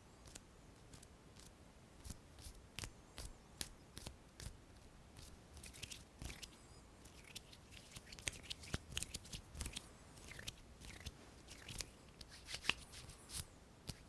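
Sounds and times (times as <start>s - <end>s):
hand clicks and rustles: 0.2s - 14.0s.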